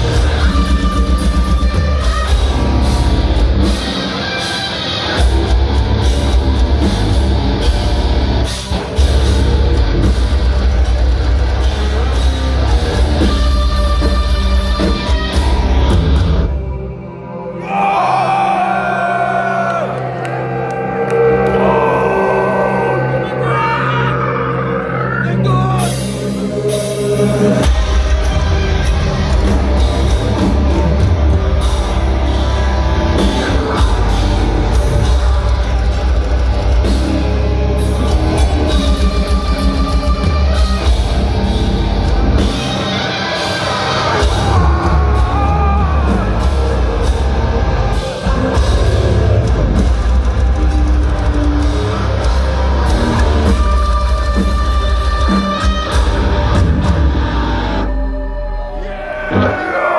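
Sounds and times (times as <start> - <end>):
pounding drum kit: 0.0 - 16.6, 25.8 - 57.8
heavy distorted guitars: 0.0 - 20.2, 20.8 - 59.9
heavy metal band playing live: 0.0 - 59.9.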